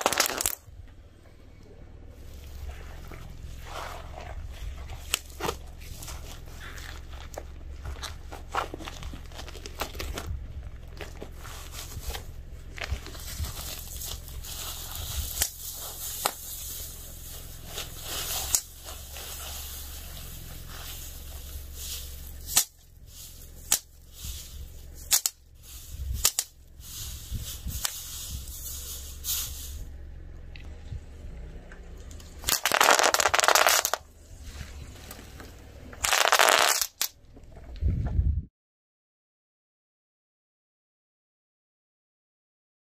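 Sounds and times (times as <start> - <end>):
objects crunching under car tyre: 0.0 - 1.0, 2.1 - 37.8
low steady hum: 0.0 - 36.1.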